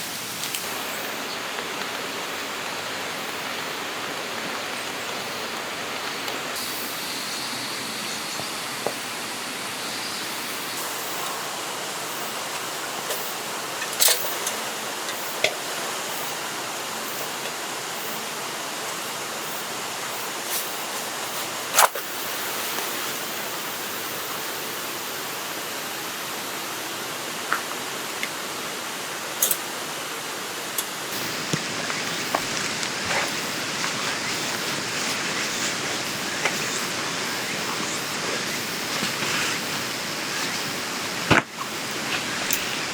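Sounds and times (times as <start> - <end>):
river rushing: 0.0 - 42.9.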